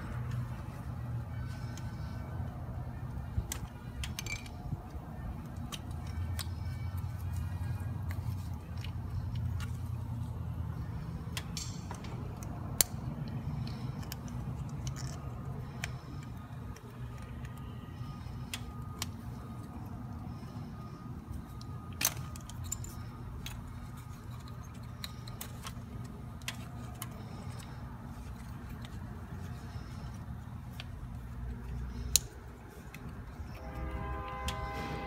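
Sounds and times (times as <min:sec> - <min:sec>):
steady low hum: 0:00.0 - 0:35.0
metal engine parts clicking: 0:01.4 - 0:34.6.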